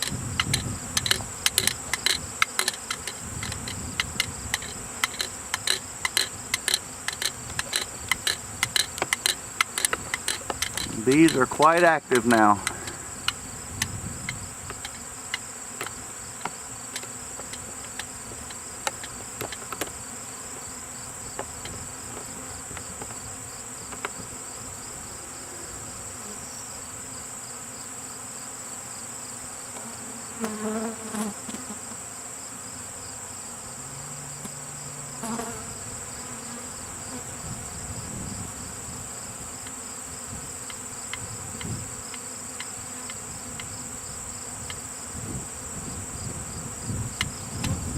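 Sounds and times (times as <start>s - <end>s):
bees buzzing: 0.0s - 47.9s
bees passing close: 0.0s - 47.9s
high insect whine: 0.0s - 47.9s.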